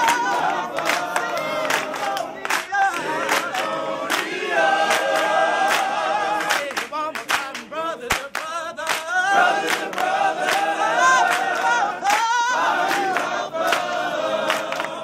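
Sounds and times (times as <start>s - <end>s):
a cappella group singing: 0.0s - 15.0s.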